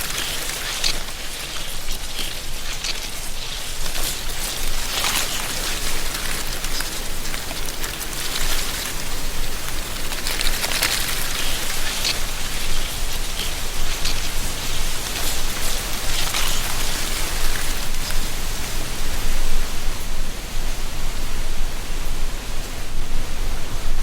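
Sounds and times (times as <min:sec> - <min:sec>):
wind rustling dry leaves: 0:00.0 - 0:24.0.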